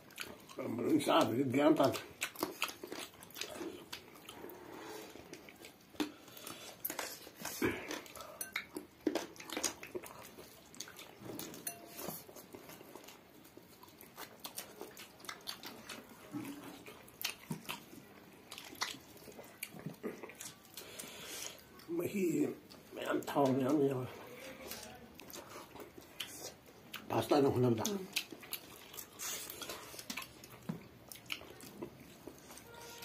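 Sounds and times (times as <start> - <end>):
chewing and lip smacks: 0.0 - 21.9, 22.6 - 33.0.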